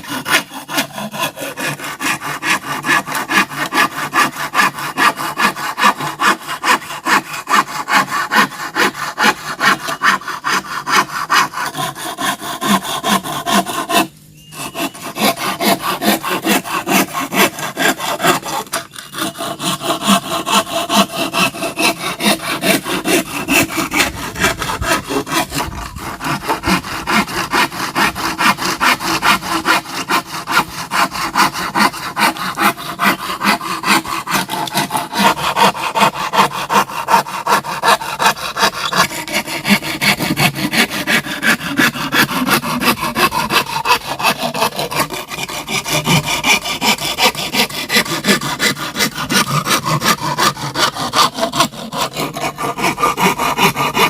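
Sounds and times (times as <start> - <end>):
hand saw cutting bamboo: 0.0 - 54.0.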